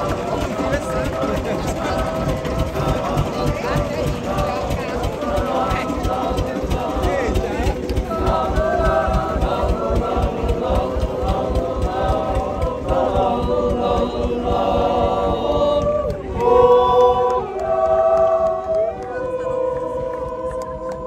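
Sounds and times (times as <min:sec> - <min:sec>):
men's choir singing in harmony: 0:00.0 - 0:21.0.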